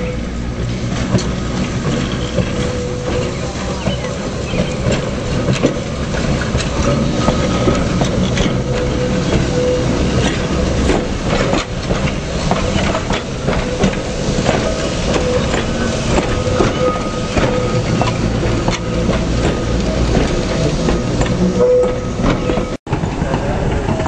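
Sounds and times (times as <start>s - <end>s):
railcar rumble with faint whine: 0.0s - 24.0s
wheels clicking over rail joints: 0.0s - 24.0s.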